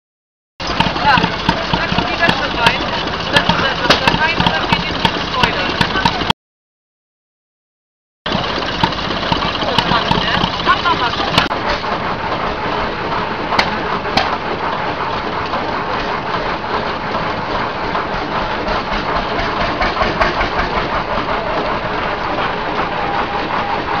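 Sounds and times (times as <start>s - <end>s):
engine machinery clattering: 0.6s - 6.3s, 8.3s - 24.0s.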